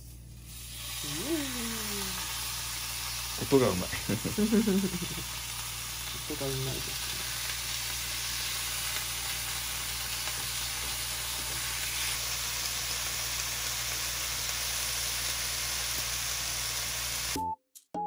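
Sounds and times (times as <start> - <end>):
steaks sizzling in a pan: 0.4 - 17.4.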